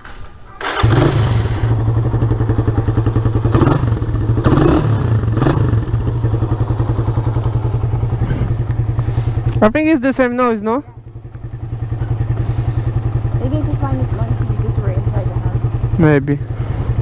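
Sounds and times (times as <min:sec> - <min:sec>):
motorcycle engine idling and revving: 0:00.6 - 0:17.0.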